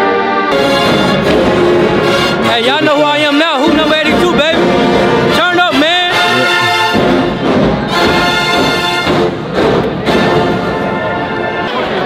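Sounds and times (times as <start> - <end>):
brass playing held chords: 0.0 - 12.0.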